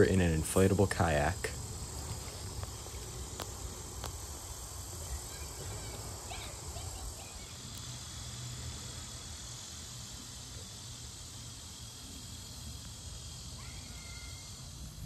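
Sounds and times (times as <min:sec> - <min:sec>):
insects singing: 0:00.0 - 0:15.0.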